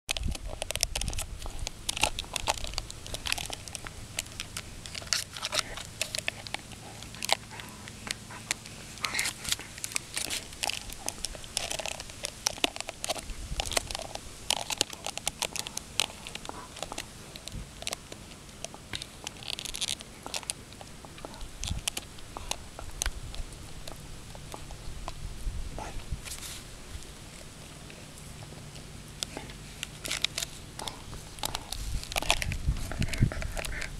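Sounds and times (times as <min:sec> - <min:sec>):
dog chewing on a bone: 0:00.1 - 0:33.9.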